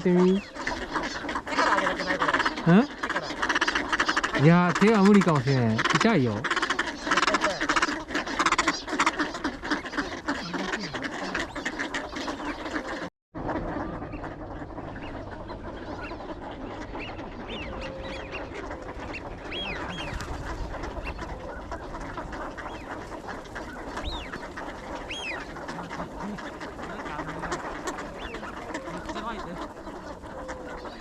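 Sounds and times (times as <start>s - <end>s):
ducks quacking: 0.0s - 31.0s
high arching duck calls: 0.0s - 31.0s.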